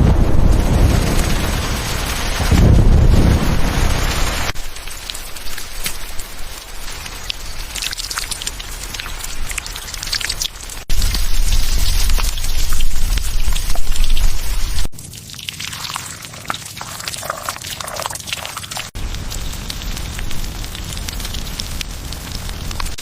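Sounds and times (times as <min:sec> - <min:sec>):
rain falling: 0:00.0 - 0:23.0
raindrops ticking close by: 0:00.4 - 0:23.0.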